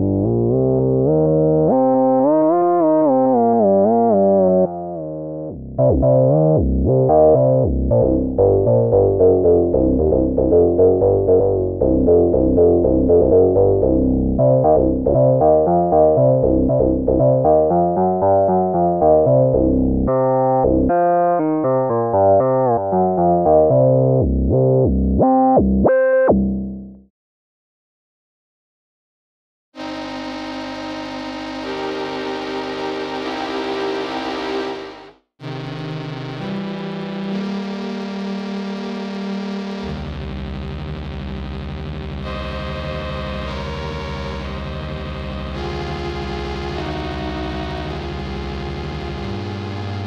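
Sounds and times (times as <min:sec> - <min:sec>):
synth bass line: 0:00.0 - 0:26.9, 0:29.8 - 0:50.0
synthesizer notes and chords: 0:00.0 - 0:27.0, 0:29.8 - 0:50.0.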